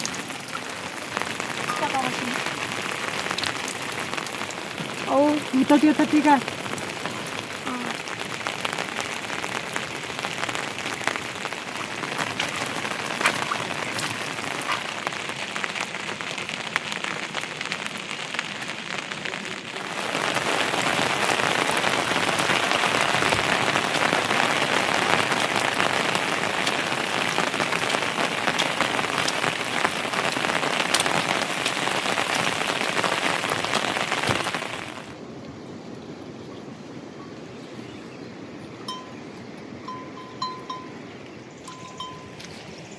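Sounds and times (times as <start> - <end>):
raindrops ticking: 0.0 - 37.4, 38.6 - 42.9
heavy rain falling: 0.0 - 42.9.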